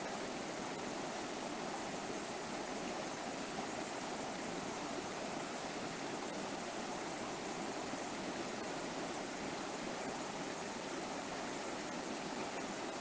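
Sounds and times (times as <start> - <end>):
river water running over rocks: 0.0 - 13.0.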